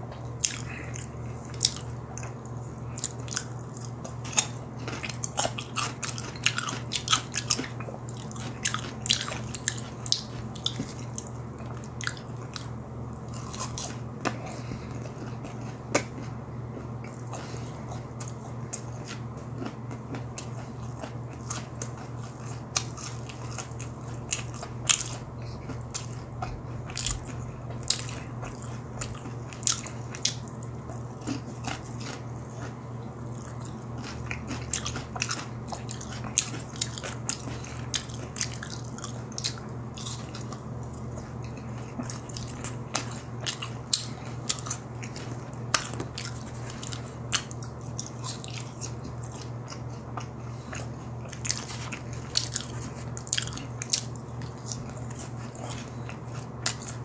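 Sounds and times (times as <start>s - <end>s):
low steady hum: 0.0s - 57.0s
crunchy chewing: 0.1s - 57.0s.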